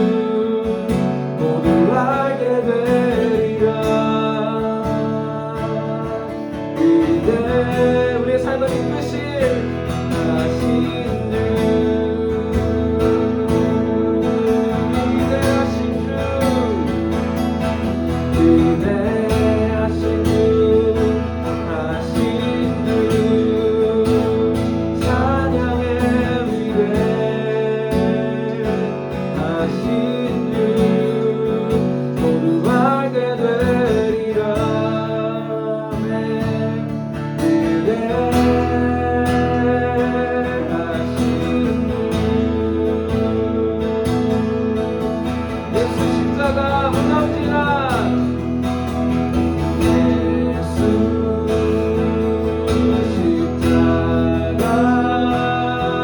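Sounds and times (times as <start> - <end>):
person singing: 0.0 - 56.0
strummed acoustic guitar: 0.0 - 56.0.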